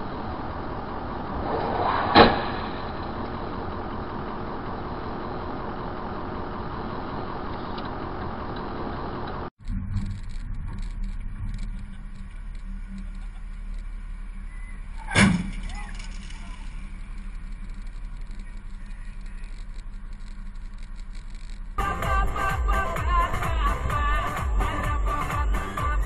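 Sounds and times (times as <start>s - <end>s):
car engine and road noise: 0.0s - 26.0s
vehicle engines idling: 0.0s - 26.0s.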